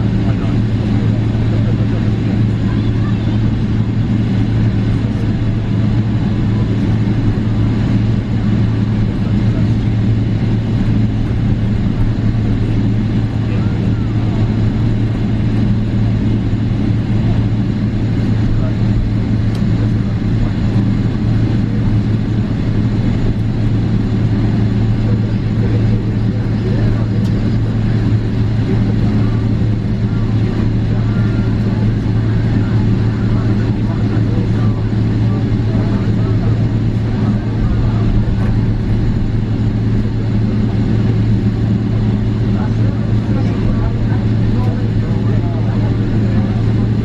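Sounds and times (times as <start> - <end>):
airplane cabin hum: 0.0 - 47.0.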